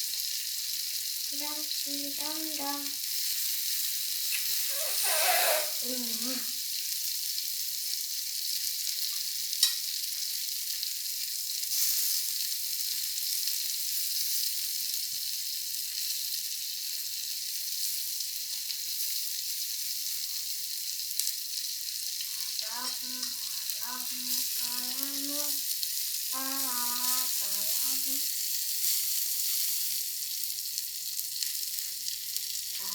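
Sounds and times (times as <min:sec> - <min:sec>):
shrimp sizzling in hot oil: 0:00.0 - 0:32.9.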